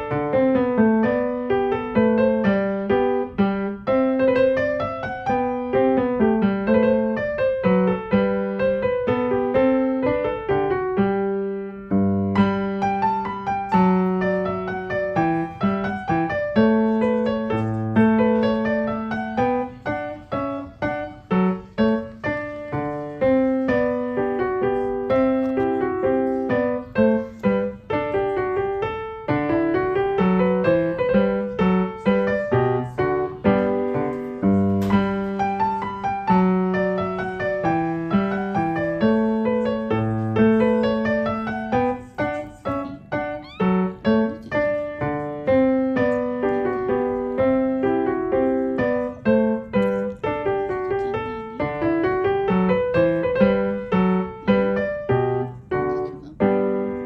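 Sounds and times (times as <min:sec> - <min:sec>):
gentle piano music: 0:00.0 - 0:57.0.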